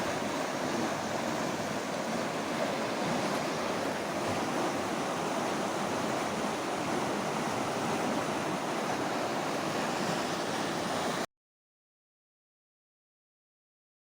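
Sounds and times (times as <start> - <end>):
water rushing along a canal: 0.0 - 11.3.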